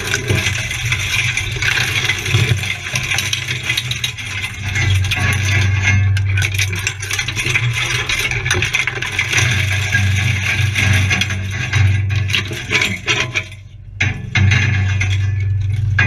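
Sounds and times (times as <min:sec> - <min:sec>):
vehicle rattling over stones: 0:00.0 - 0:16.0.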